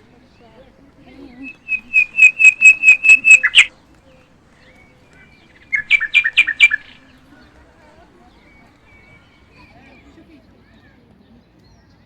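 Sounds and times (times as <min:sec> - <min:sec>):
songbird singing: 0:00.0 - 0:10.3.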